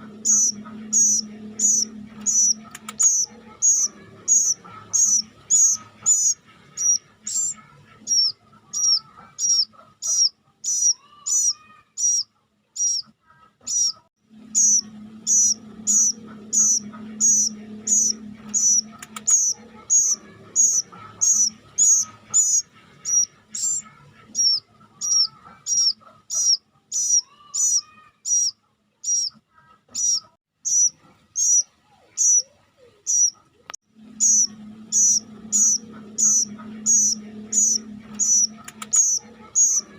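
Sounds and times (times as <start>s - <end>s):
cuckoo chick begging chirps: 0.0s - 39.9s.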